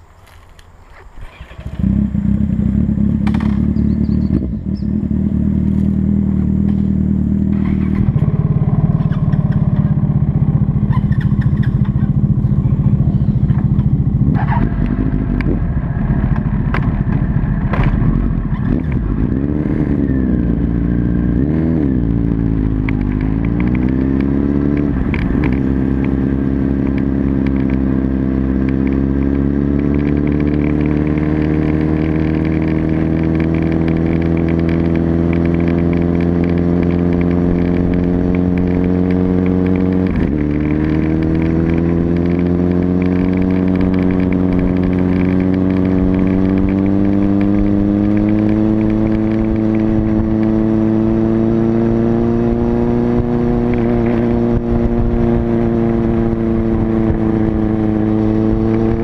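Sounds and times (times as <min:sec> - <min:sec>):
motorcycle engine revving: 0:00.9 - 0:59.0.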